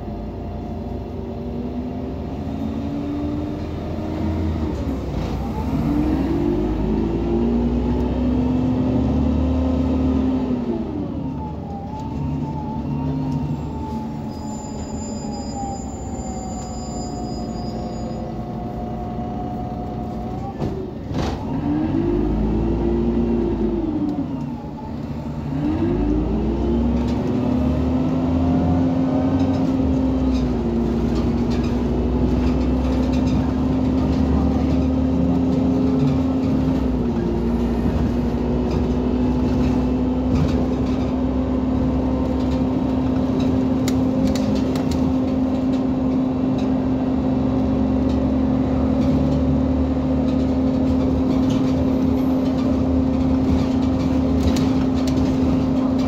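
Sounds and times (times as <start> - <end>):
bus drivetrain whine: 0.0 - 56.0.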